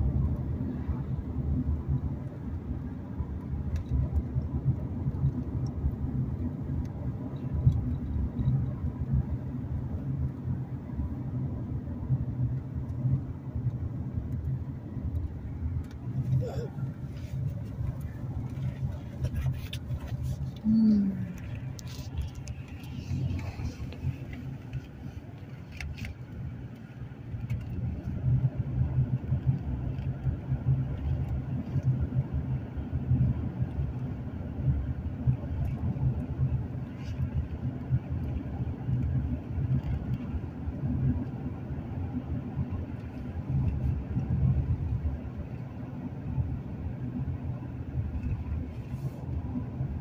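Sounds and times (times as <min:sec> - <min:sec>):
car cabin road rumble: 0:00.0 - 0:50.0.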